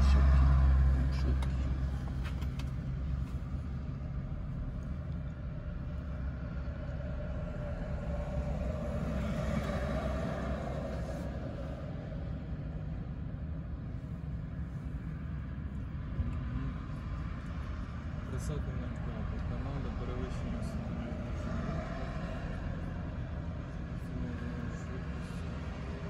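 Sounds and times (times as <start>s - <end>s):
vehicle passing: 0.0s - 12.7s, 16.3s - 26.0s
low rumble of road vehicles: 0.0s - 26.0s.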